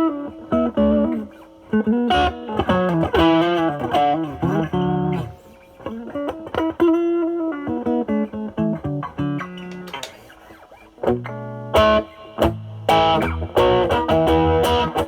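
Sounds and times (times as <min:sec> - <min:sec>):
overdriven electric guitar lead: 0:00.0 - 0:15.0.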